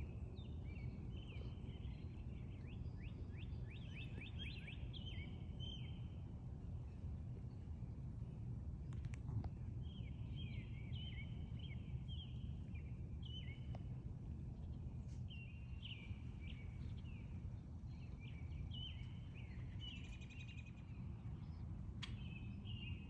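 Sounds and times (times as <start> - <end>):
low outdoor rumble: 0.0 - 23.0
songbirds chirping: 0.0 - 23.0.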